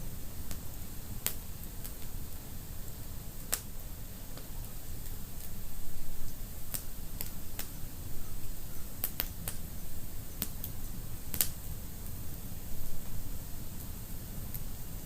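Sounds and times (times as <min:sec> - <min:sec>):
low rumble of flames: 0:00.0 - 0:15.0
fire crackling and popping: 0:00.1 - 0:15.0.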